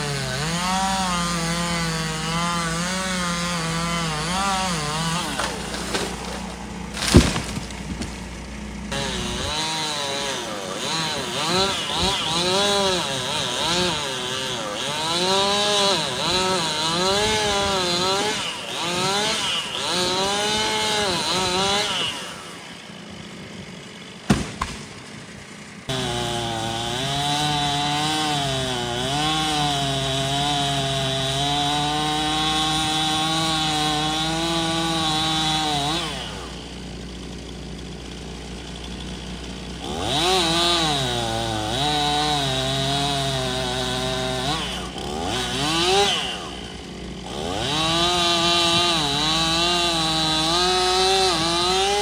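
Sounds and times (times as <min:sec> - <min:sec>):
chainsaw cutting: 0:00.0 - 0:52.0.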